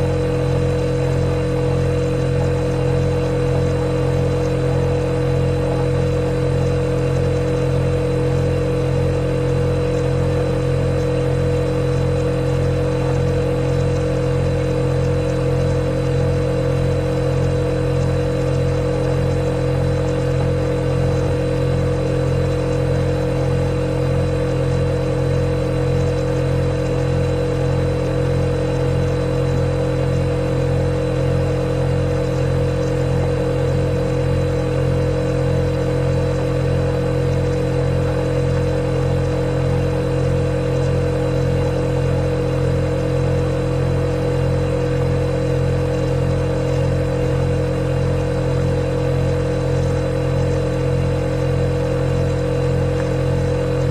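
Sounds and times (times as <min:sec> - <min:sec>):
refrigerator compressor humming: 0:00.0 - 0:53.9.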